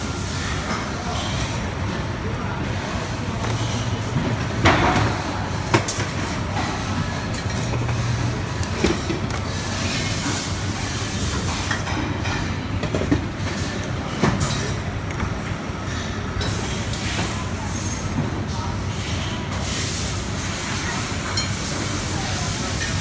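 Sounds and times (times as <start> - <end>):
factory machinery hum: 0.0 - 23.0.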